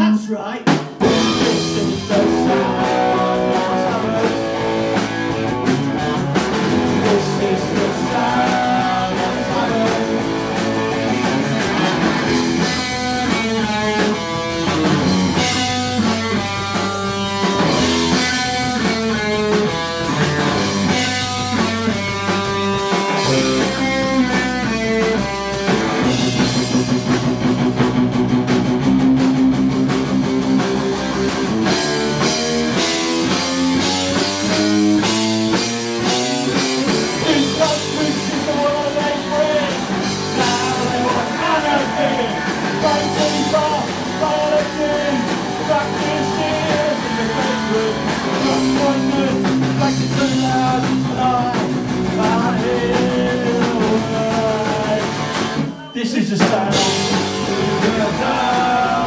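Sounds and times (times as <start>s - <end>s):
bass guitar: 0.0s - 59.0s
drum kit: 0.0s - 59.0s
electric guitar melody: 1.0s - 55.9s, 56.7s - 59.0s.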